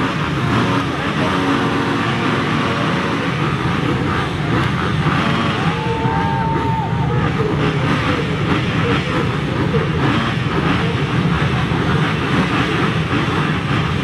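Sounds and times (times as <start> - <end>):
motocross engines revving together: 0.0 - 14.0.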